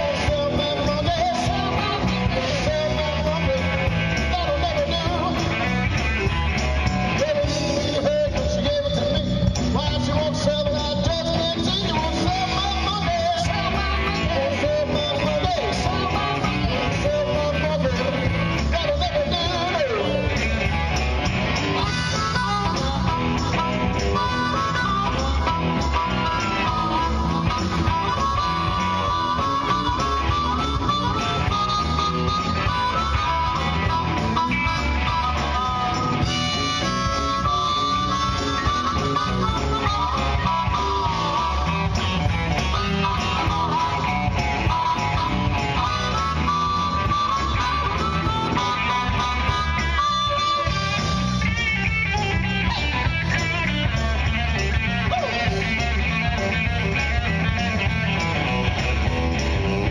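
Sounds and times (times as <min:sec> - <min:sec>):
bass: 0:00.0 - 0:59.9
drums: 0:00.0 - 0:59.9
electric guitar: 0:00.0 - 0:59.9
harmonica lead line: 0:00.0 - 0:59.9.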